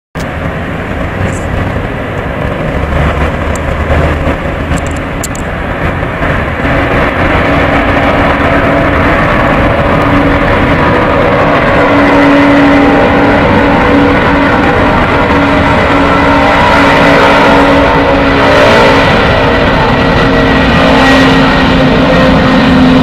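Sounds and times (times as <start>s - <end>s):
jet engines roaring: 0.2s - 23.0s.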